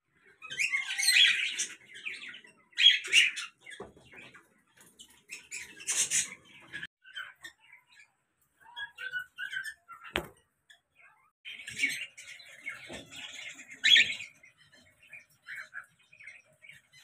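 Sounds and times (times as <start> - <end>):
cockatiels screeching: 0.4 - 4.4, 5.0 - 10.1, 11.5 - 17.0.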